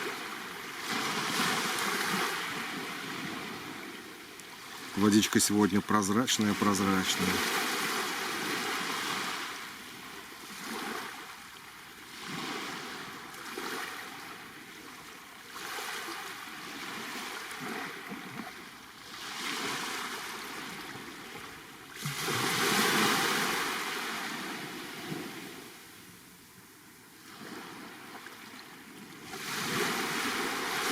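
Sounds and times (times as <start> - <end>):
waves washing onto shore: 0.0 - 30.9.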